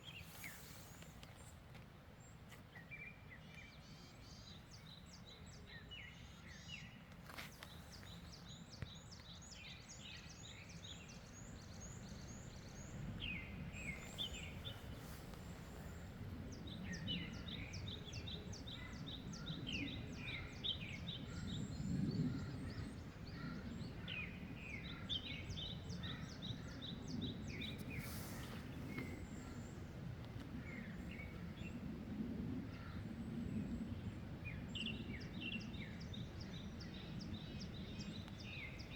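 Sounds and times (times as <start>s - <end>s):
low wind rumble: 0.0s - 38.9s
small birds singing and chirping: 2.2s - 29.9s, 32.8s - 38.9s.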